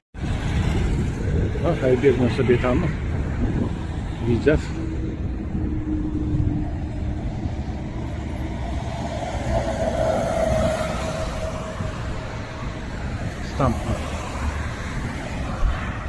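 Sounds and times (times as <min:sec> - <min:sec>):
road traffic passing: 0:00.1 - 0:16.0
low rumble: 0:00.2 - 0:13.5
bus passing: 0:00.2 - 0:16.0
tram passing: 0:00.2 - 0:16.0.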